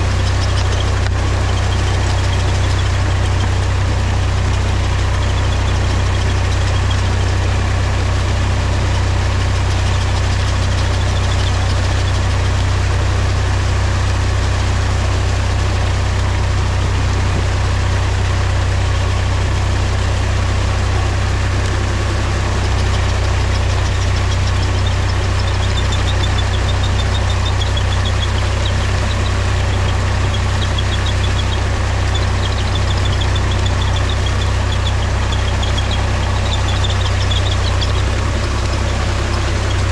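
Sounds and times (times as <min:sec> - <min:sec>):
tractor diesel engine rumbling: 0:00.0 - 0:39.9.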